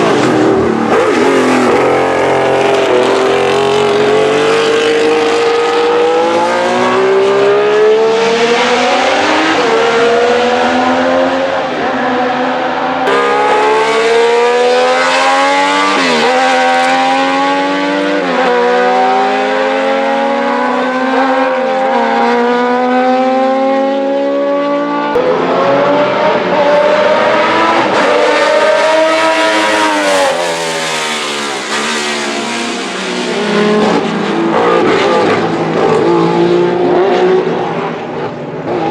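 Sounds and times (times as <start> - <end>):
racing engine accelerating: 0.0 - 38.9.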